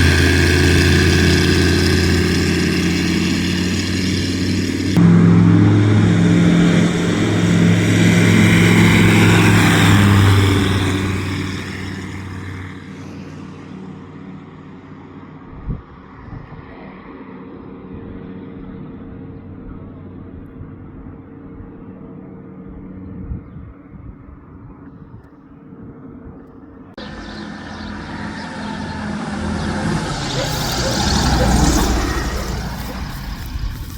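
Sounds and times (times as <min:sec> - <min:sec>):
light aircraft propeller engine: 0:00.0 - 0:33.9.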